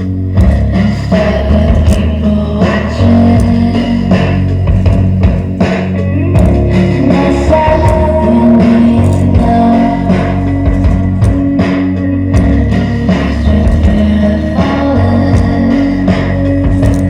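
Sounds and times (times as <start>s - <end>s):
guitar: 0.0s - 17.0s
heavy bass line: 0.0s - 17.0s
drum hits: 0.4s - 17.0s.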